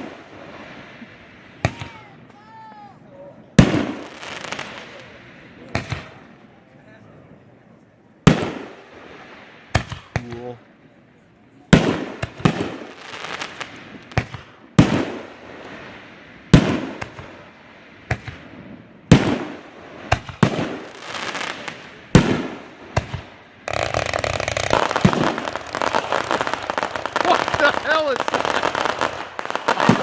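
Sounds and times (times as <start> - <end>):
fireworks bangs with echo: 0.0 - 2.8, 3.4 - 6.3, 8.2 - 10.6, 11.7 - 30.0
dense fireworks crackling: 0.0 - 30.0.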